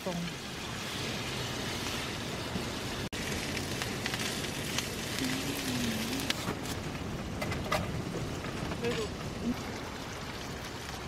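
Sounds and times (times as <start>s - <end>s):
dumplings sizzling in oil: 0.0s - 11.0s.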